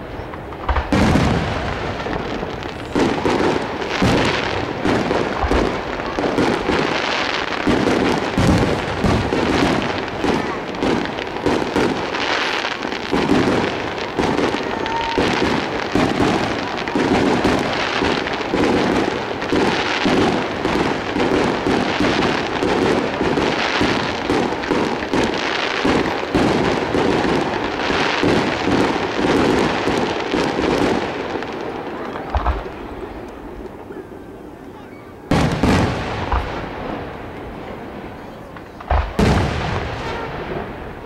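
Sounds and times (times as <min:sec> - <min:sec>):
fireworks booming: 0:00.0 - 0:41.0.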